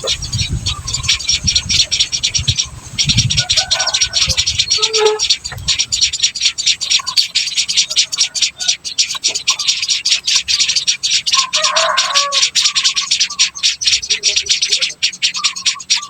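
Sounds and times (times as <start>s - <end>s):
nestlings chittering: 0.0s - 16.0s
short lower bird calls: 0.0s - 16.0s.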